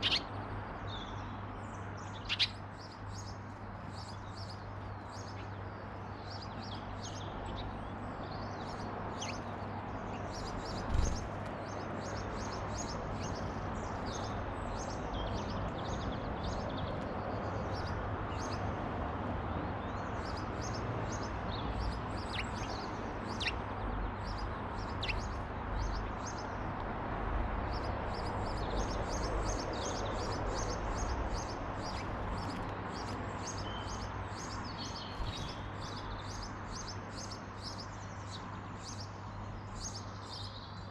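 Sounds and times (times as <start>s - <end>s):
small birds chirping: 0.0s - 18.8s, 19.5s - 26.8s, 27.6s - 40.9s.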